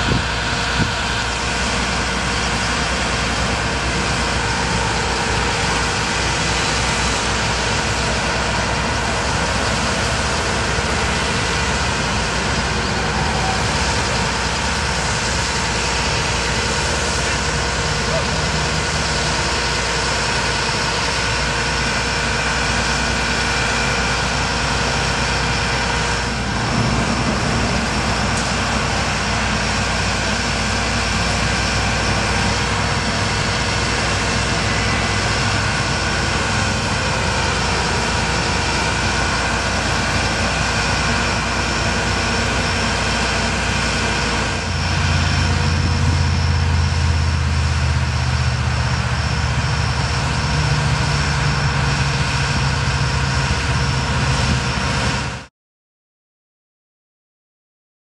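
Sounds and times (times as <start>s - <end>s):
hydraulic whining: 0.0s - 55.4s
deep loud hum: 0.0s - 55.5s
diesel engine droning: 0.0s - 55.5s.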